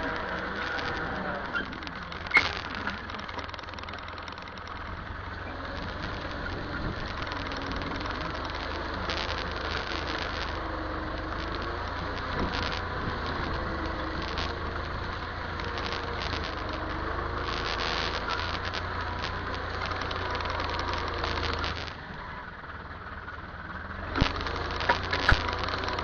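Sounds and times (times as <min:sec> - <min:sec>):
high-pitched rattle: 0:00.0 - 0:22.0, 0:24.1 - 0:26.0
tractor engine running: 0:00.0 - 0:26.0.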